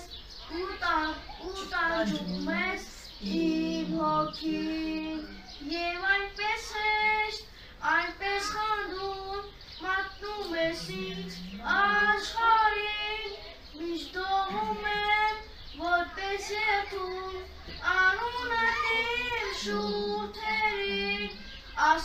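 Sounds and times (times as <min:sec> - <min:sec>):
boy singing solo: 0:00.0 - 0:22.0.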